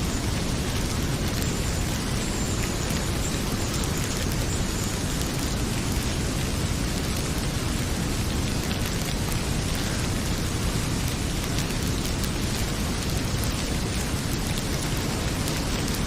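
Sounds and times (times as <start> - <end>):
heavy rain pouring: 0.0 - 16.0
wood fire crackling: 0.0 - 16.0.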